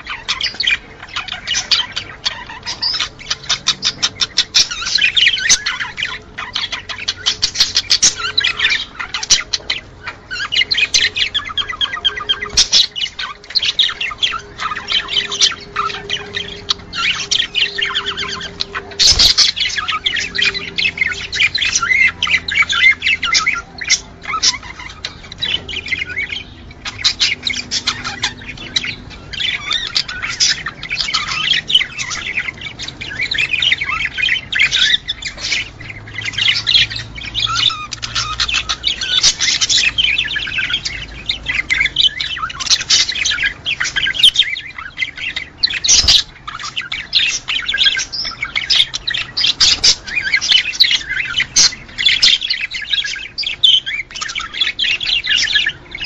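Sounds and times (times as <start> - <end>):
budgerigars chattering and warbling: 0.0 - 56.0.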